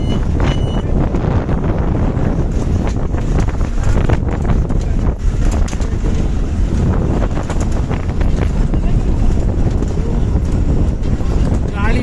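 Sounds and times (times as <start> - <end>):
gusty wind on microphone: 0.0 - 12.0.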